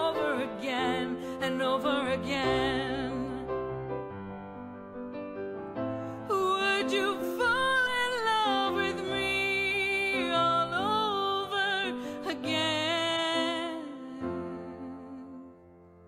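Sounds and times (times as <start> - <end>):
slow love ballad: 0.0 - 16.0.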